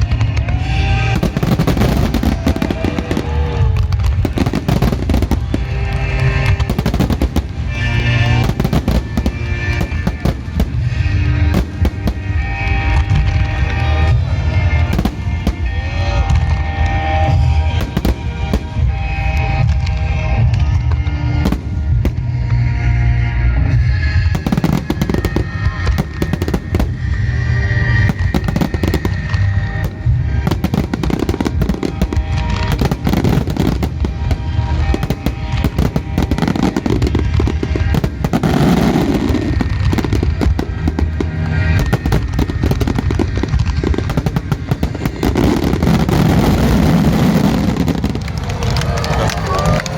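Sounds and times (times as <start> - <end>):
fireworks bursting in a barrage: 0.0 - 23.0, 23.6 - 49.9
music playing: 0.0 - 49.9.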